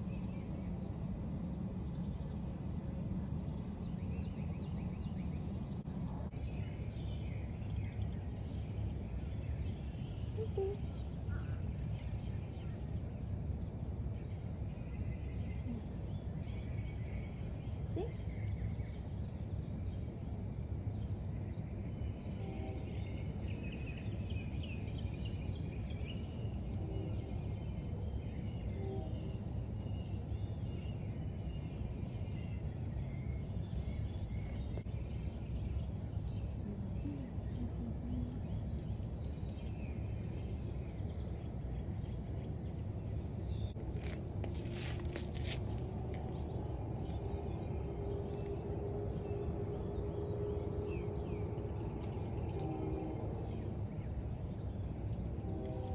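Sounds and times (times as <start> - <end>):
small birds chirping: 0.0 - 55.9
steady low rumble: 0.0 - 55.9.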